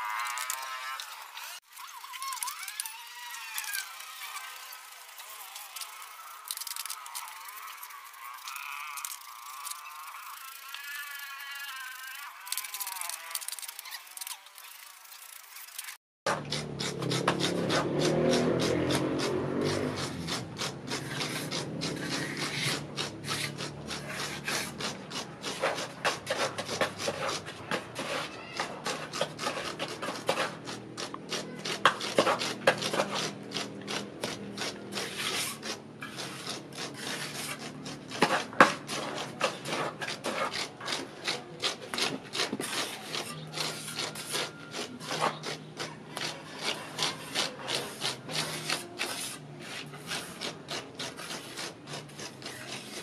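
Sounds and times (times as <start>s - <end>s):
hand tool scraping cement: 0.0s - 53.0s.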